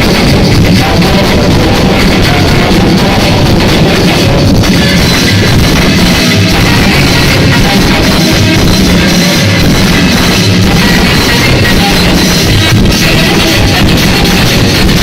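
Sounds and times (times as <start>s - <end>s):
loud music with drums: 0.0s - 15.0s.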